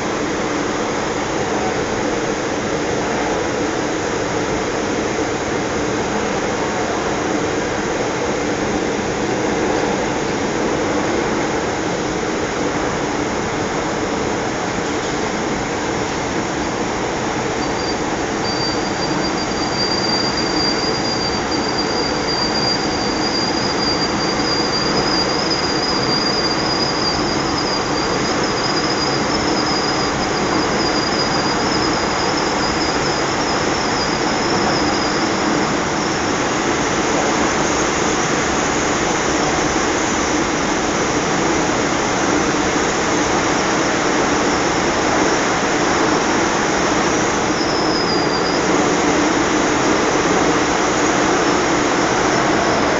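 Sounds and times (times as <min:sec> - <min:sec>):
high-pitched steady whine: 0:00.0 - 0:52.9
train rumble: 0:00.0 - 0:52.9.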